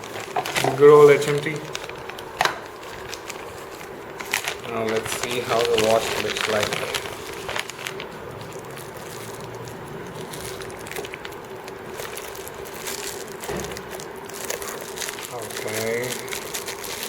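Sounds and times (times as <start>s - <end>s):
faint steady hum: 0.0s - 17.0s
packaging crinkling: 0.0s - 17.0s.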